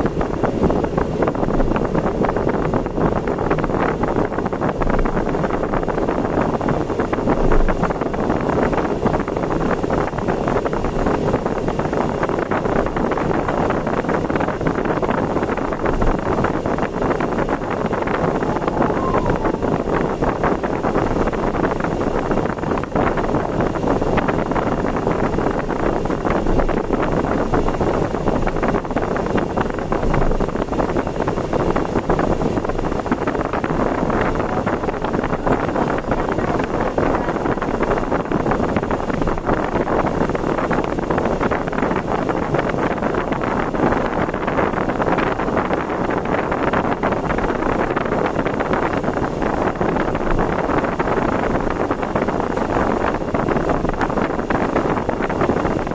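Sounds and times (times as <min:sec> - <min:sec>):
vehicle road and wind noise: 0:00.0 - 0:55.9.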